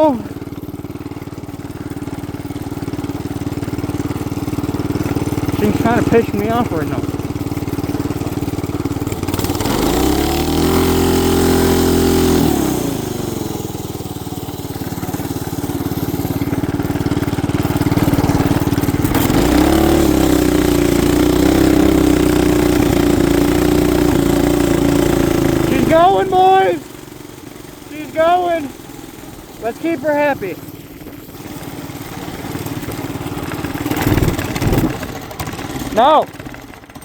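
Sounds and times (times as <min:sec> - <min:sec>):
small engine idling and revving: 0:00.0 - 0:37.0.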